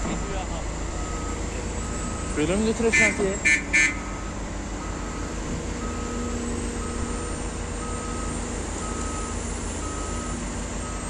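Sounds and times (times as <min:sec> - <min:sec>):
diesel machinery running: 0:00.0 - 0:11.0
reversing alarm beeping: 0:00.1 - 0:11.0.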